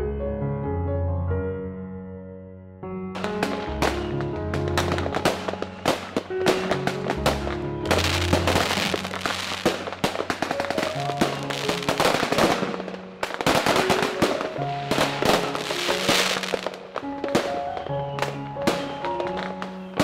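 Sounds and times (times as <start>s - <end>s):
slow melodic background music: 0.0s - 20.0s
fireworks crackling and bursting: 3.2s - 20.0s.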